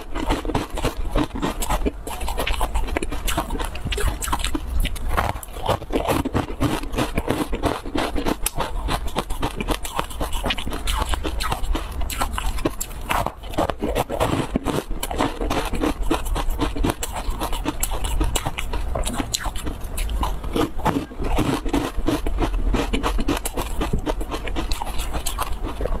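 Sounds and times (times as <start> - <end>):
chewing crunchy dessert: 0.0 - 26.0.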